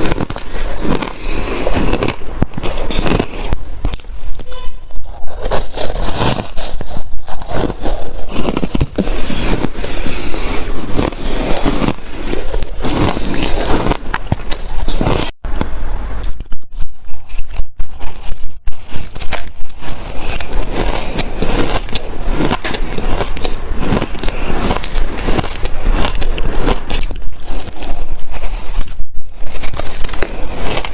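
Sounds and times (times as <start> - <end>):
ice crunching in mouth: 0.0 - 4.4, 5.0 - 15.4, 16.8 - 30.9.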